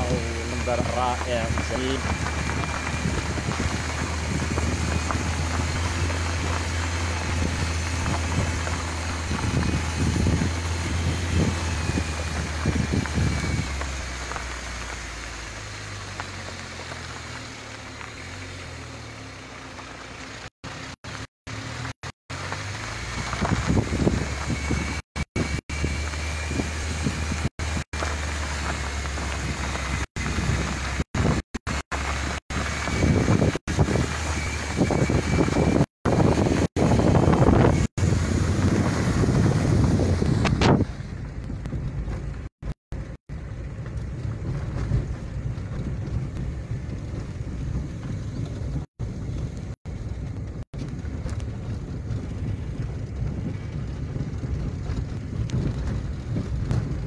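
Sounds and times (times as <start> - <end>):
car engine drone: 0.0 - 57.0
road rumble on dirt track: 0.0 - 57.0.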